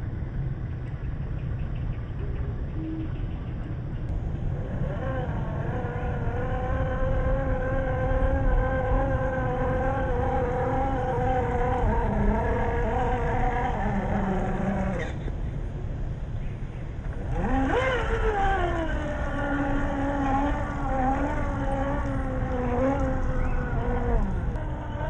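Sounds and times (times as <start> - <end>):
electric motor and gears whining: 2.8 - 15.4, 16.6 - 25.0.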